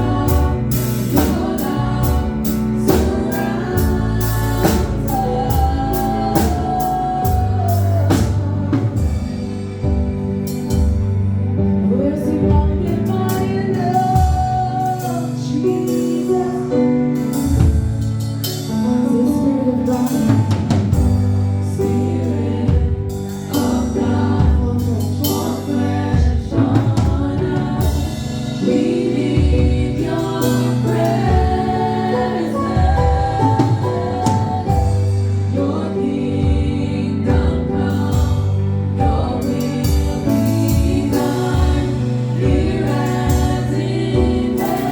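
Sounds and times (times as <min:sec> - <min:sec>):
group of voices singing: 0:00.0 - 0:10.4, 0:18.8 - 0:44.9
band with drum kit: 0:00.0 - 0:44.9.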